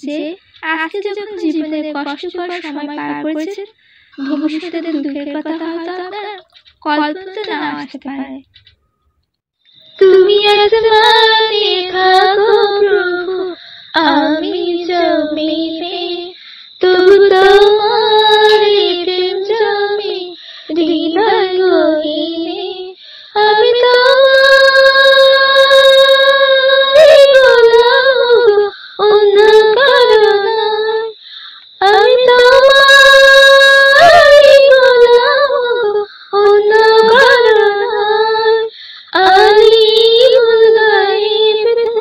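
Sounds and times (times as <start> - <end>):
woman singing slow devotional song: 0.0 - 8.4, 9.8 - 42.0.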